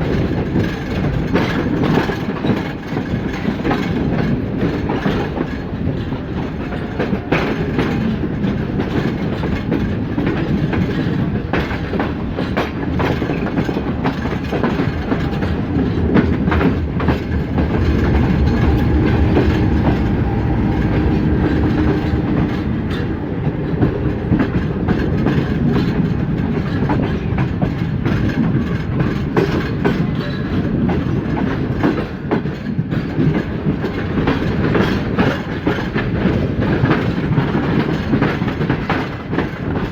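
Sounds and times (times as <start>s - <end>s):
train rumble: 0.0s - 39.9s
wheels clicking over rail joints: 0.0s - 39.9s.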